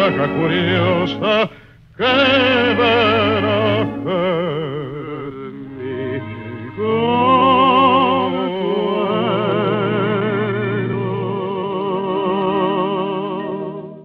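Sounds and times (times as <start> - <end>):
orchestral accompaniment: 0.0 - 13.9
man singing with vibrato: 0.0 - 14.0.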